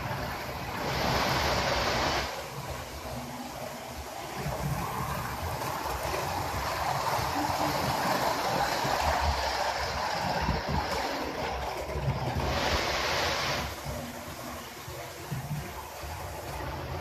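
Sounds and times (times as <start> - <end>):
model train rumbling past: 0.0 - 17.0.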